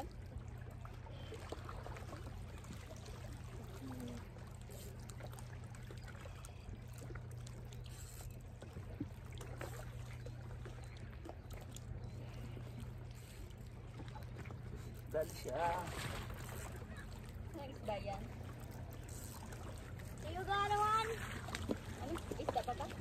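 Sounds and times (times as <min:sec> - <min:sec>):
small waves lapping: 0:00.0 - 0:23.0
steady low hum: 0:00.0 - 0:23.0.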